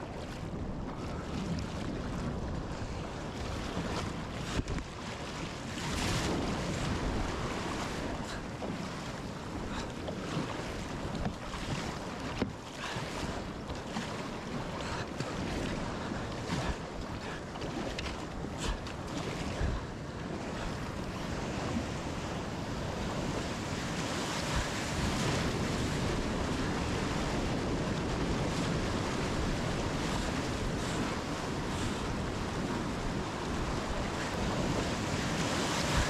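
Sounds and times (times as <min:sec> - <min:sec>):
waves washing around kayak: 0:00.0 - 0:36.0
wind buffeting microphone: 0:00.0 - 0:36.0.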